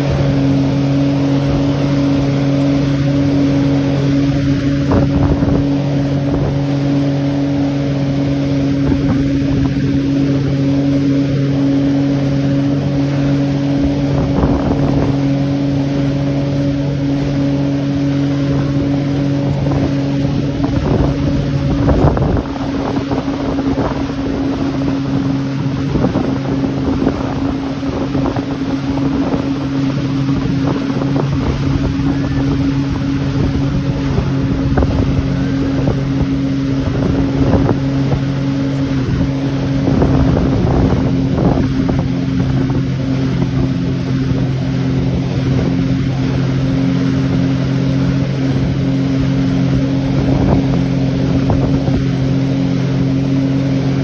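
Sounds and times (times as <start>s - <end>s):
motorboat engine running: 0.0s - 54.0s
rushing wind: 0.0s - 54.0s
water noise: 0.0s - 54.0s.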